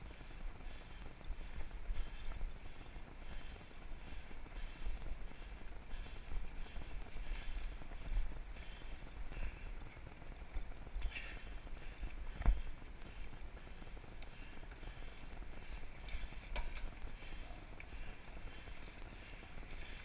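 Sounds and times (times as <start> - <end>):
bike tyres rumbling on trail: 0.0 - 20.0.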